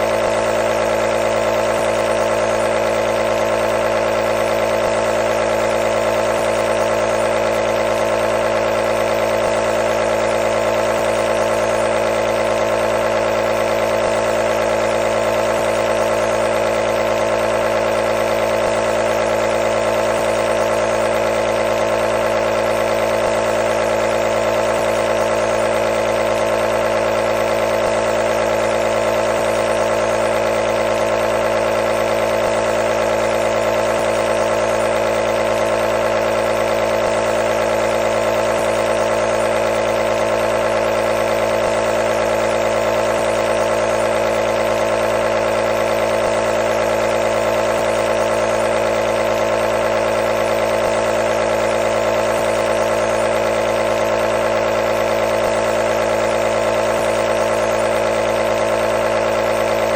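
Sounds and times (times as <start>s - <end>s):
nebulizer compressor humming: 0.0s - 59.9s.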